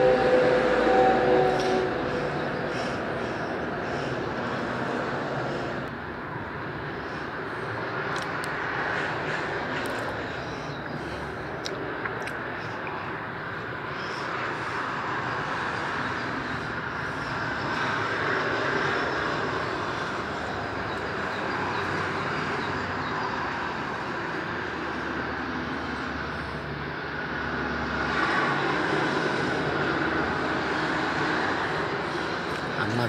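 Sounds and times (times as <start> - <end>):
distant motorway traffic: 0.0 - 33.0.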